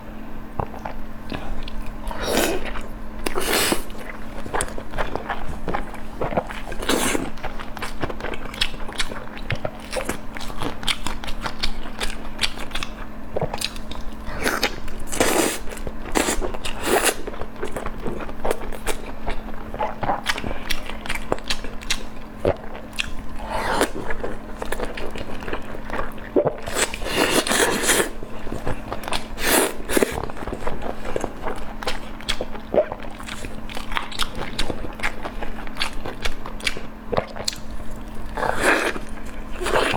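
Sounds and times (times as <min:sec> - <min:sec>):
person chewing food: 0:00.5 - 0:39.9.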